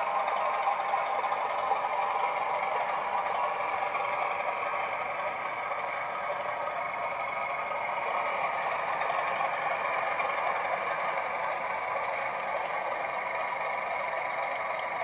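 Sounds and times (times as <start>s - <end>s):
diesel engine sound from small speaker: 0.0s - 15.0s.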